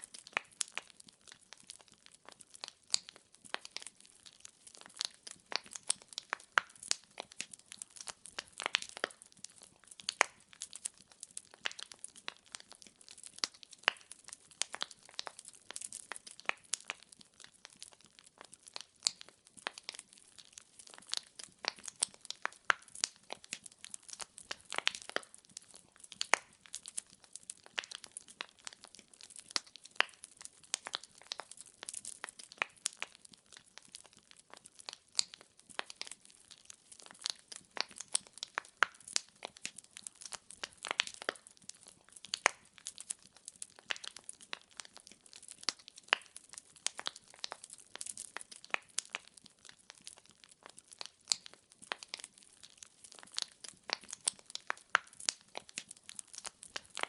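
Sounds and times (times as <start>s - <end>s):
firewood crackling: 0.0s - 57.0s.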